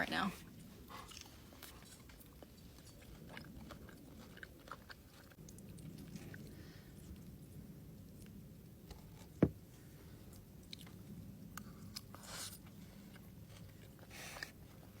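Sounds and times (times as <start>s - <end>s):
chewing and biting food: 0.4s - 15.0s.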